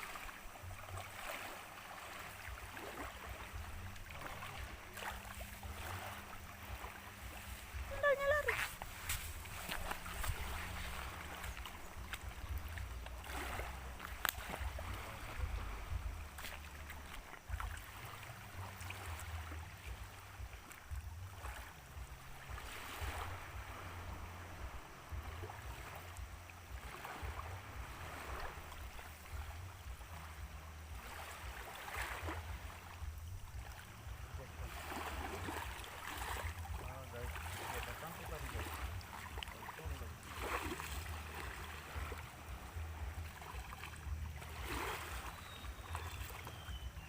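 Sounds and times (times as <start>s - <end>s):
water washing in and out: 0.0s - 46.6s
wind rumbling on microphone: 0.0s - 47.0s.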